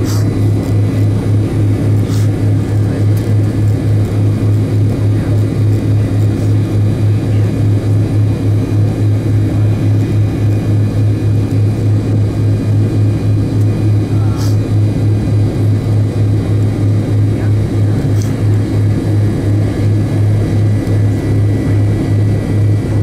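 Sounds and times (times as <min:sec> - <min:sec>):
jet engines idling low drone: 0:00.0 - 0:23.0.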